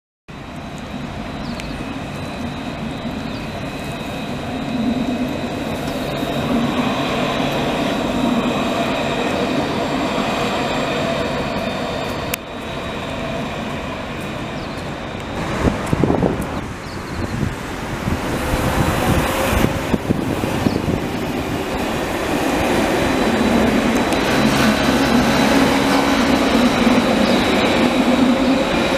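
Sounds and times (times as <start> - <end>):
street noise: 0.3 - 28.9
tram rolling noise: 0.3 - 28.9.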